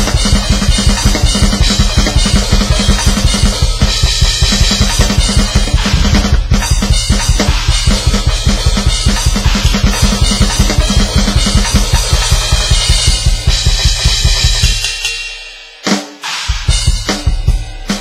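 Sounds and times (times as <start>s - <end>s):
fast electronic bass drum beat: 0.0s - 15.0s, 16.4s - 18.0s
snare drum: 0.0s - 15.0s
cymbals: 0.0s - 18.0s.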